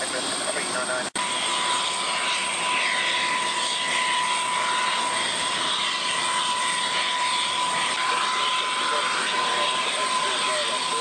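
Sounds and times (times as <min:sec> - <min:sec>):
jet turbines running: 0:00.0 - 0:11.0.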